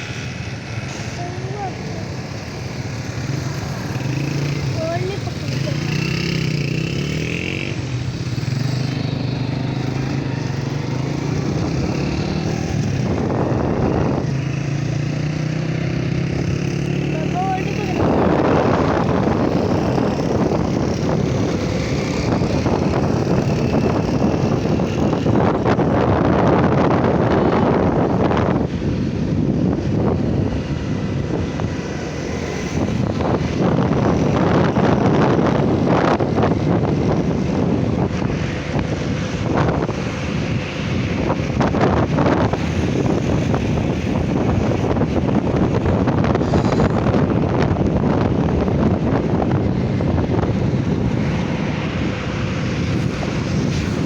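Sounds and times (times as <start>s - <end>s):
motorcycle engine: 0.0s - 54.0s
road noise: 0.0s - 54.0s
wind rushing over microphone: 0.0s - 54.0s.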